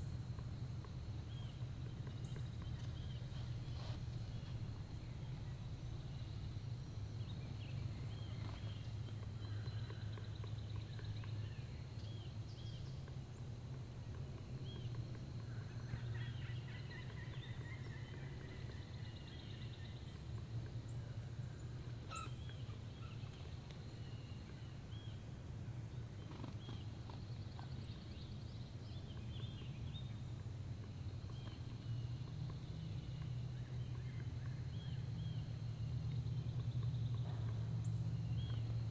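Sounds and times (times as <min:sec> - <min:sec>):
songbird chirps and trills: 0:00.0 - 0:38.9
steady low hum: 0:00.0 - 0:38.9.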